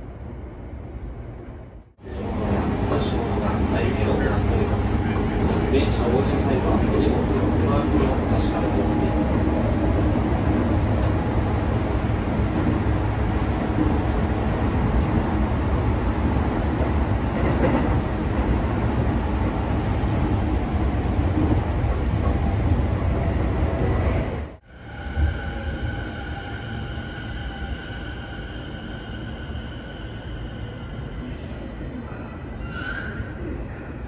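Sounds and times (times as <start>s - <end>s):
train wheels rumbling on rails: 2.0s - 32.0s.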